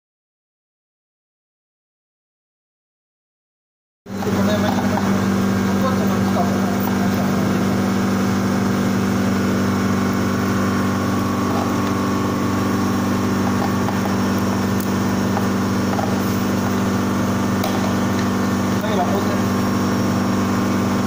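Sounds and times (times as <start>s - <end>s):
freezer compressor humming: 4.1s - 21.0s.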